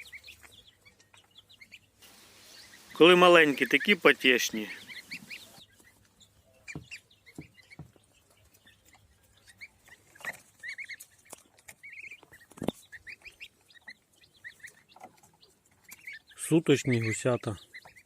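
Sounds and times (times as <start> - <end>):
goslings peeping: 0.0 - 18.0.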